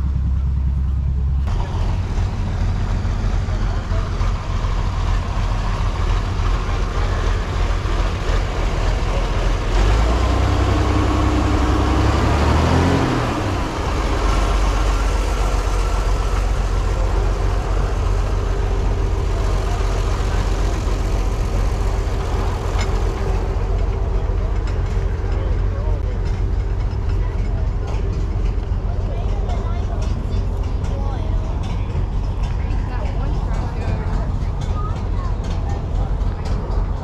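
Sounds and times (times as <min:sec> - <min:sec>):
engine rumbling: 0:00.0 - 0:37.0.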